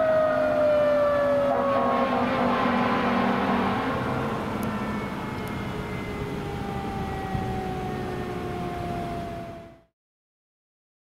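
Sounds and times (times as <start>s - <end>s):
faint whine falling in pitch: 0.0s - 9.9s
fire engine siren: 0.0s - 9.9s
low rumble of engine and traffic: 0.0s - 9.9s.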